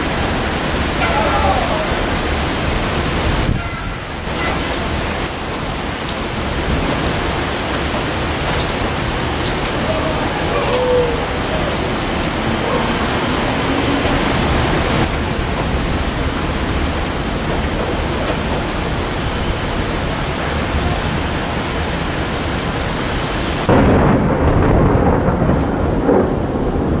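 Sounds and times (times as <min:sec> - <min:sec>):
heavy rain: 0:00.0 - 0:27.0
thunder rumbling: 0:00.0 - 0:27.0.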